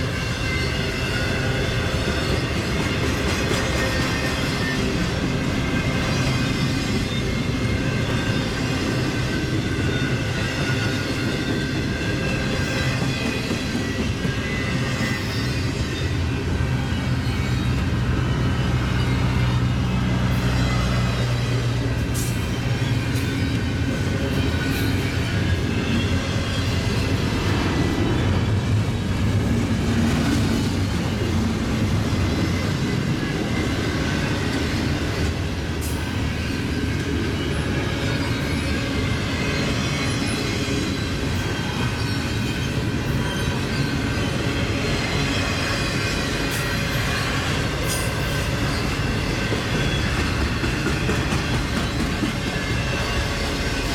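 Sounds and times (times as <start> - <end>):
freight train wheels rumbling on rails: 0.0 - 53.9.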